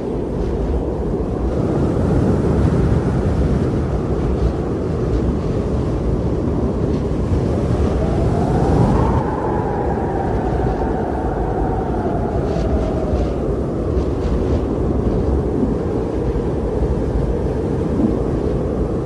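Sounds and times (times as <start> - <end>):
howling blizzard wind: 0.0 - 19.0.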